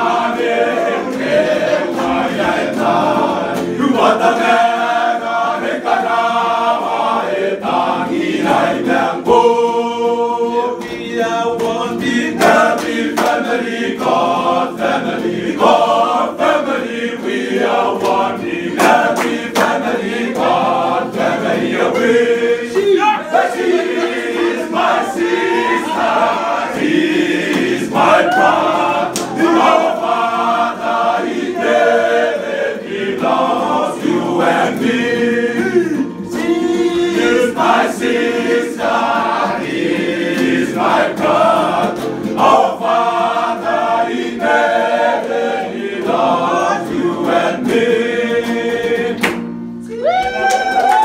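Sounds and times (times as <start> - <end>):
men singing in chorus: 0.0 - 49.2
strummed acoustic guitar: 0.0 - 49.9.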